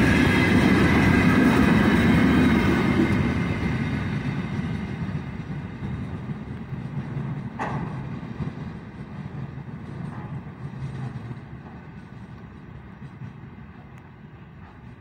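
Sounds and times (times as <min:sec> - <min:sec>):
freight train wagons rumbling: 0:00.0 - 0:15.0.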